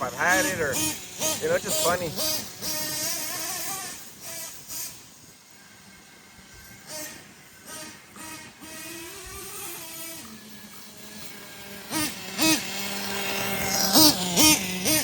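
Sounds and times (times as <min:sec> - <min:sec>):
model engine revving: 0:00.0 - 0:15.0.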